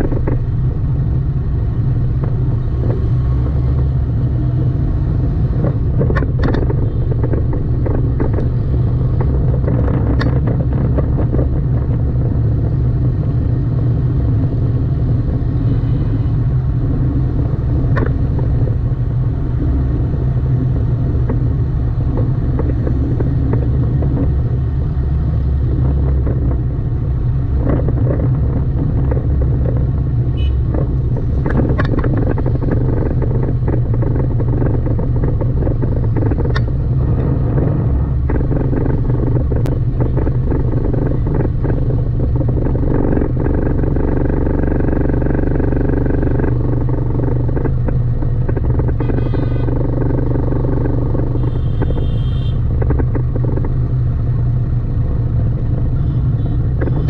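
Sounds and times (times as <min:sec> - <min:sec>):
car engine and road noise: 0:00.0 - 0:57.0
sharp clicks and knocks: 0:00.0 - 0:57.0.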